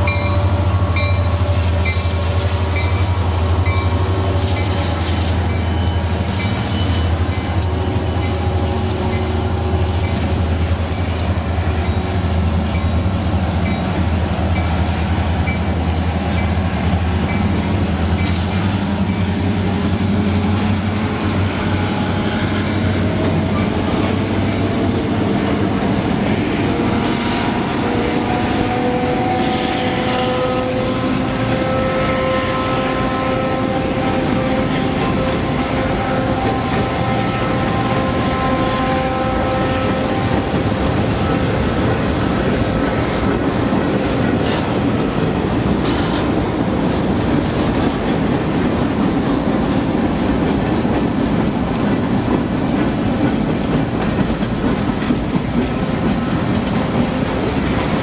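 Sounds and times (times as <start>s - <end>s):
diesel locomotive engine drone: 0.0s - 58.0s
freight wheels on rails: 0.0s - 58.0s.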